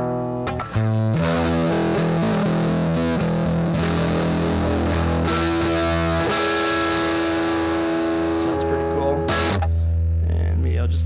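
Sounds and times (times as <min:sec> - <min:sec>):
overdriven electric guitar chord: 0:00.0 - 0:09.9.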